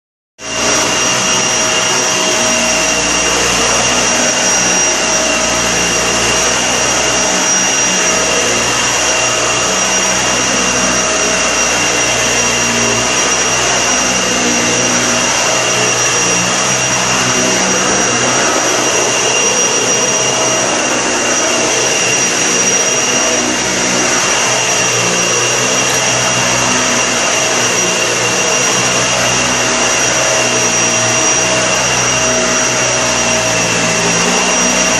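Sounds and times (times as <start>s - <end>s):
vacuum cleaner on carpet: 0.4s - 34.9s.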